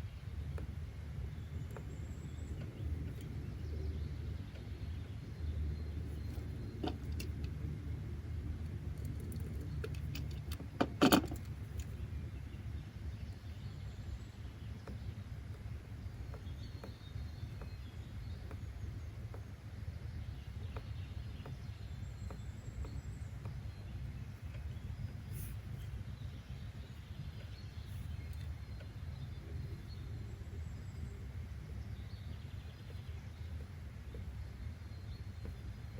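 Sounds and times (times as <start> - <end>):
low background rumble: 0.0 - 35.9.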